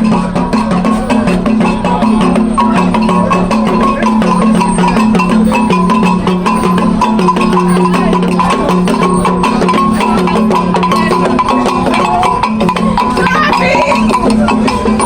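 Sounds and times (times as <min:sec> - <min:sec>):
quick percussion strokes: 0:00.0 - 0:15.0.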